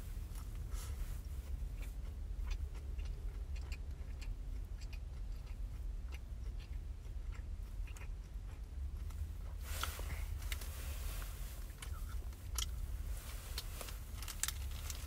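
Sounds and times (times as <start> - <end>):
close-up chewing: 0.0 - 15.0
low rumble inside a car: 0.0 - 15.0.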